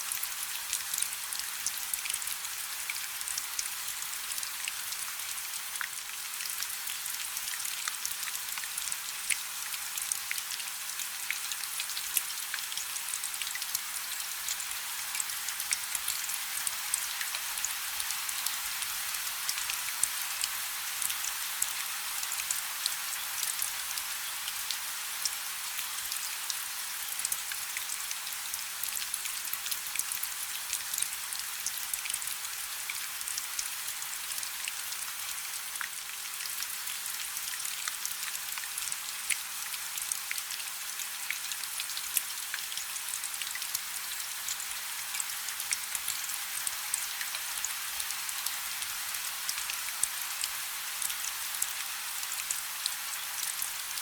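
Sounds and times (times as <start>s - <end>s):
rain falling on a river: 0.0s - 54.0s.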